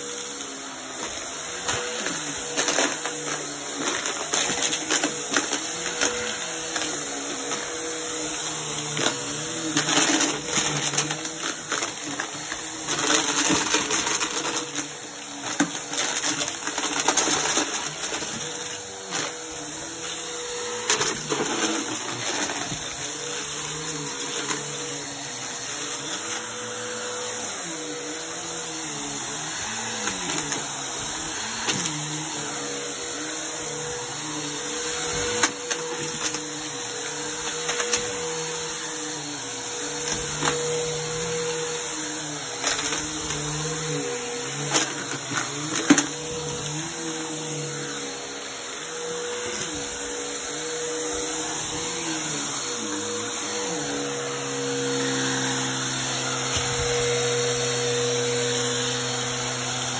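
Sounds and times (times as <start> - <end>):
objects rattling in vacuum: 0.0 - 59.9
vacuum cleaner running on carpet: 0.0 - 59.9.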